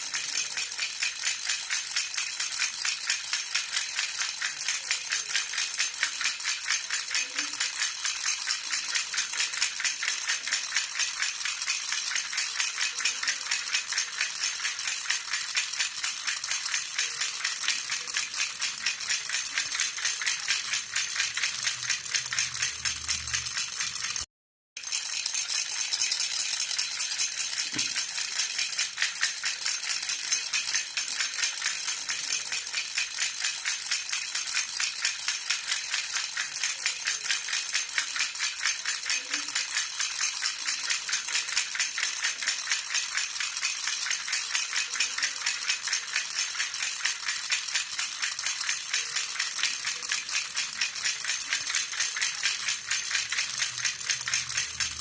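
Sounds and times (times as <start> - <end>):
baby rattle jingling: 0.0 - 55.0.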